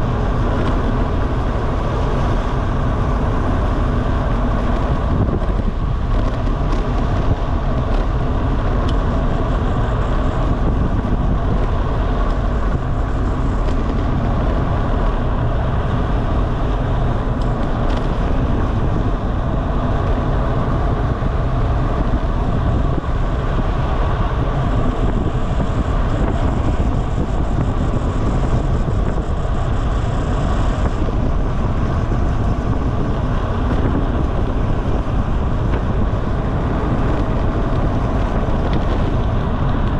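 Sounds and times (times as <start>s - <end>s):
bicycle road noise: 0.0s - 39.9s
wind rush over microphone: 0.0s - 39.9s.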